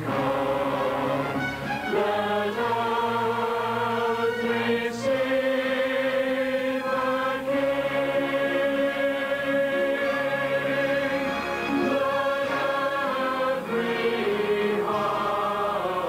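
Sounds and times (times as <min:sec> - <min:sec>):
mixed choir singing chords: 0:00.0 - 0:16.0.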